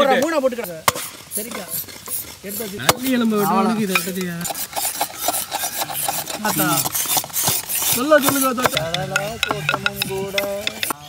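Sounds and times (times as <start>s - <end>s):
men talking: 0.0s - 11.0s
knives scraping wooden sticks: 0.1s - 11.0s.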